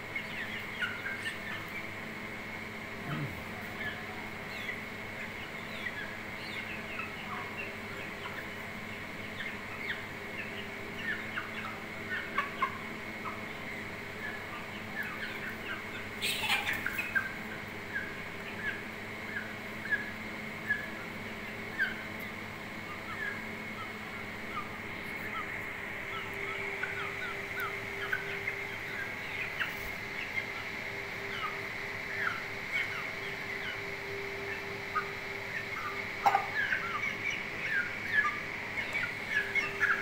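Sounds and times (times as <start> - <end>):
chickens peeping chirps: 0.0 - 40.0.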